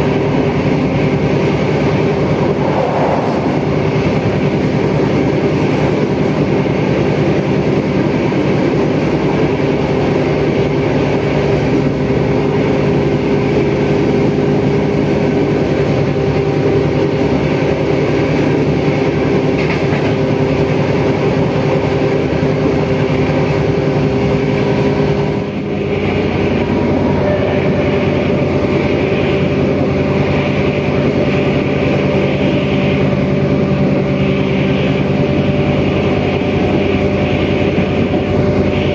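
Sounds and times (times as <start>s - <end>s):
diesel engine droning: 0.0s - 38.9s
wheels rumbling on rails: 0.0s - 38.9s.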